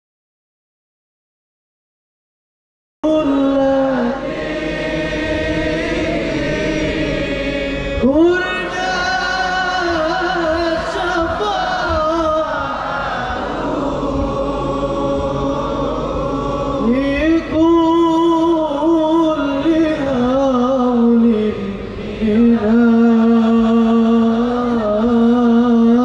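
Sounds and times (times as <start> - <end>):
man chanting devotional song: 3.0 - 12.9, 13.7 - 26.0.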